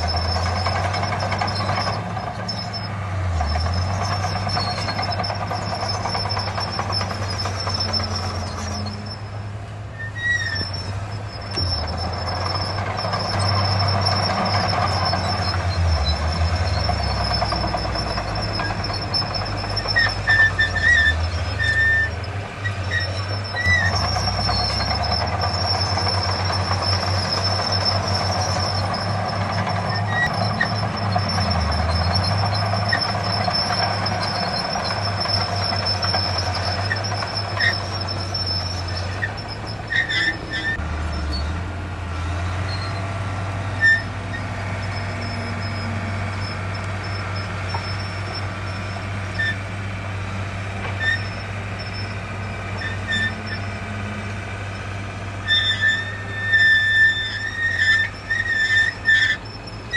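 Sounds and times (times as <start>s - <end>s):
short squeals: 0.0s - 41.6s, 42.2s - 49.7s, 50.8s - 59.9s
diesel machinery droning: 0.0s - 59.9s.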